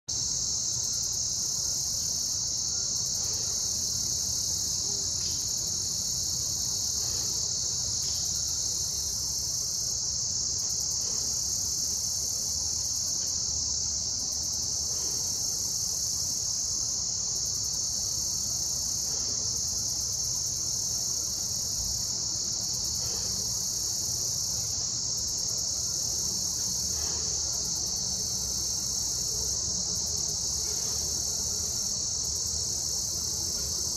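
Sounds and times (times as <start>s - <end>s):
insects chorus: 0.1s - 33.9s.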